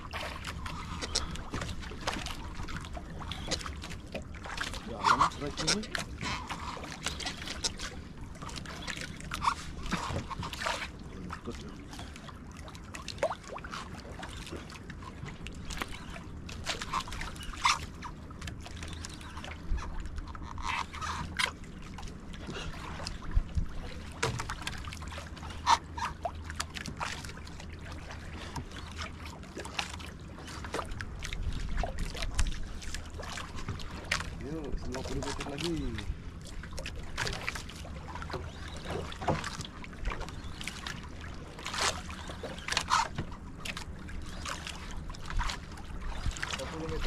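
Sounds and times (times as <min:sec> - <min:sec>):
water sloshing against boat hull: 0:00.0 - 0:47.0.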